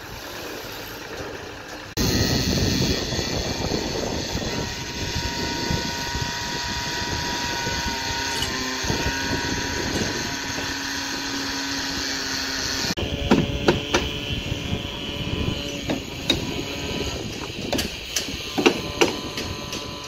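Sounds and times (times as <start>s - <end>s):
construction machinery drone: 0.0s - 20.0s.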